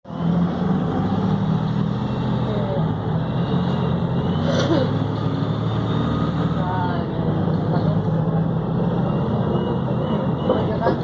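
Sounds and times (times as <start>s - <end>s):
bus engine running: 0.0s - 11.0s
road noise: 0.0s - 11.0s.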